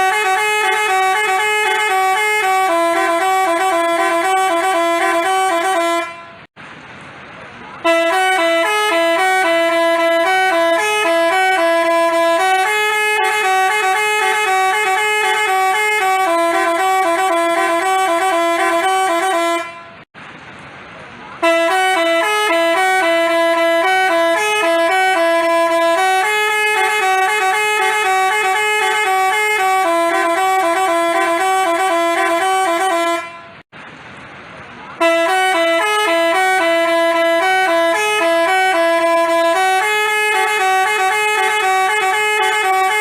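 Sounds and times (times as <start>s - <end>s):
multi-tone bus horn melody: 0.0s - 6.6s, 7.8s - 20.1s, 21.4s - 33.7s, 34.9s - 43.0s.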